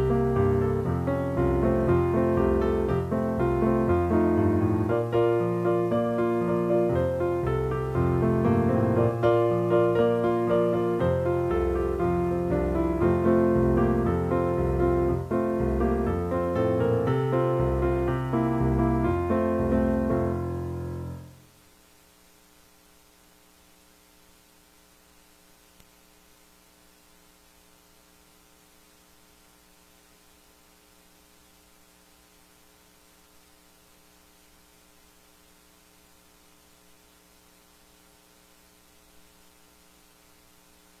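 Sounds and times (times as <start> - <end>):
faint mains hum: 0.0 - 41.0
light hiss: 0.0 - 41.0.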